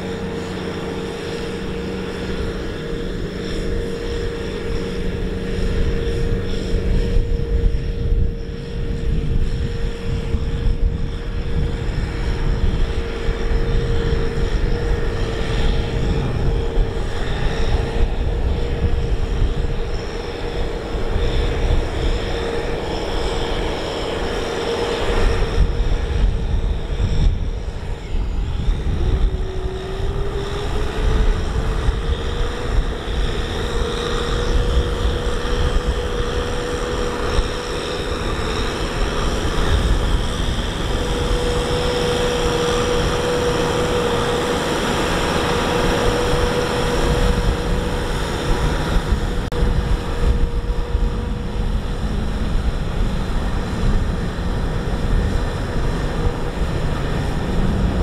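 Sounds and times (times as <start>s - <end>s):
combine harvester rumble and whine: 0.0s - 58.0s.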